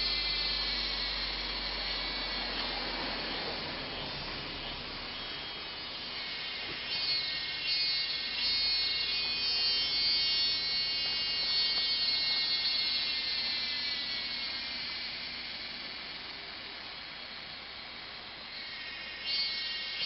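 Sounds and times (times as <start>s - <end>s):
insect chorus buzzing drone: 0.0s - 20.0s.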